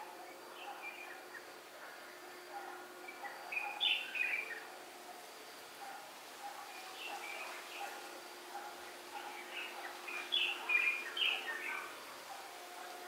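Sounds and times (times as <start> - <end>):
small birds chirping: 0.2 - 4.8, 5.4 - 13.0.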